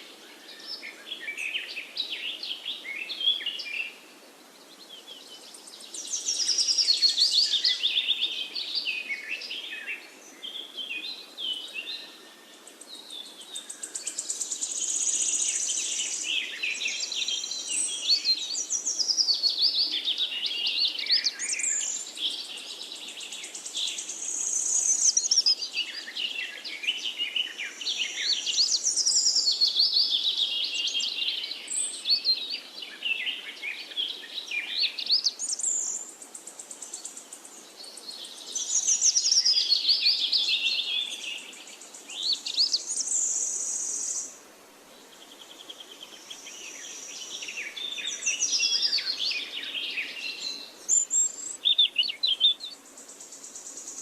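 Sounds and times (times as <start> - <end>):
birds chirping and trilling: 4.6 - 44.4, 45.0 - 54.0.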